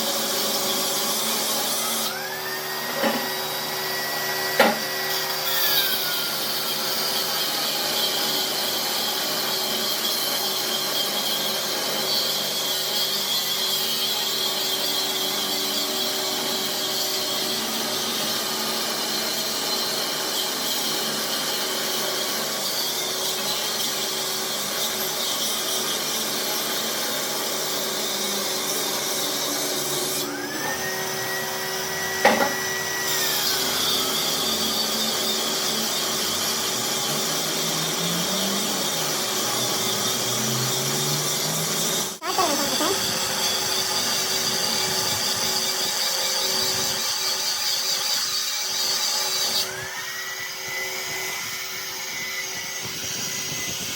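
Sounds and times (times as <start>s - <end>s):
power tool running: 0.0s - 53.9s.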